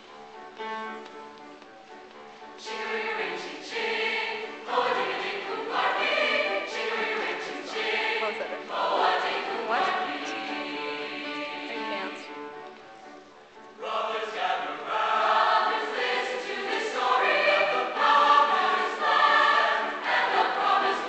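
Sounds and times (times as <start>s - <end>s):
mixed choir singing: 2.6s - 12.6s, 13.6s - 21.0s.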